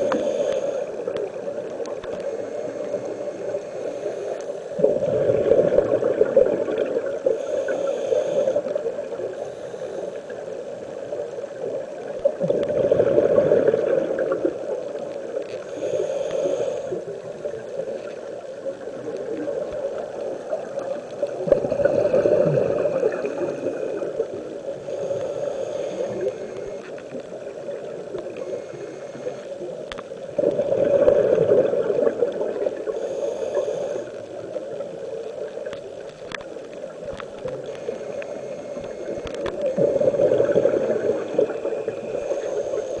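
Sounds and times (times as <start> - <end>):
exhaled bubbles gurgling underwater: 0.0 - 43.0
faint regulator hiss: 0.0 - 43.0.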